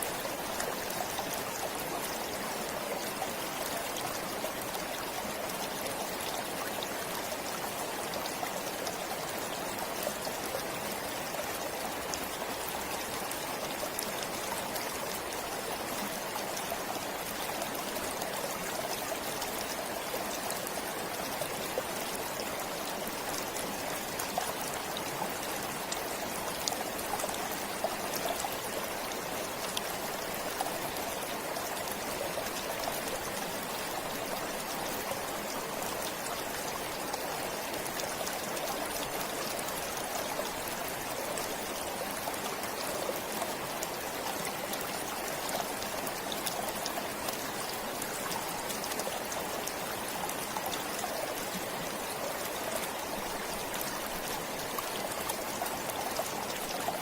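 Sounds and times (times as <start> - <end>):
stream flowing and trickling: 0.0 - 57.0.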